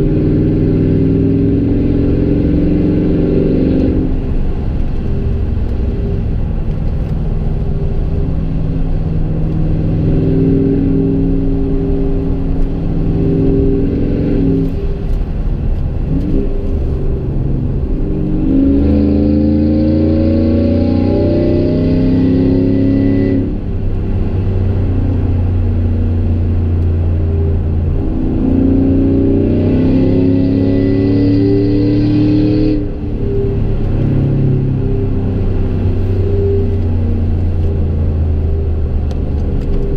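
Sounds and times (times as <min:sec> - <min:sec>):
car engine exhaust while driving: 0:00.0 - 0:39.9
engine revving under acceleration: 0:00.0 - 0:39.9.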